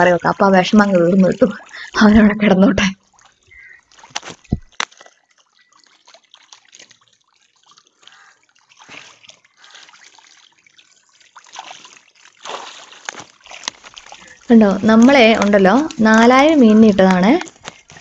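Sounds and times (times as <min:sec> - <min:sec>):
light water splashes: 0:00.0 - 0:18.0
water trickling and dripping: 0:00.0 - 0:18.0.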